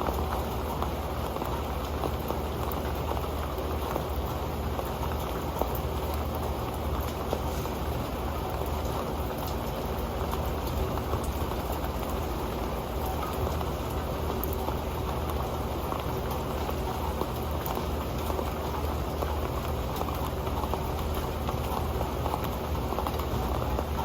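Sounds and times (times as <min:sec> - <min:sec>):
rain pattering on a metal pan: 0:00.0 - 0:24.0.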